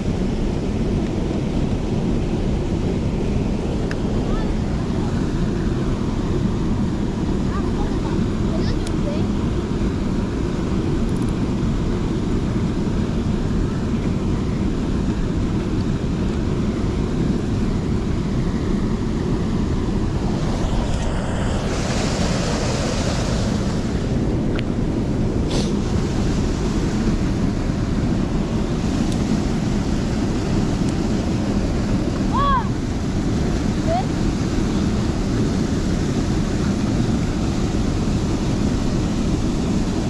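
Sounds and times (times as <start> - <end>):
stream rushing: 0.0 - 40.0
wind buffeting microphone: 0.0 - 40.0.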